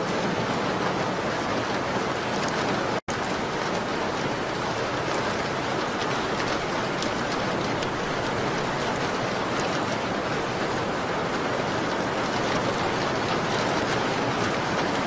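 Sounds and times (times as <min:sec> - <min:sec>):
rain on window glass: 0:00.0 - 0:15.0.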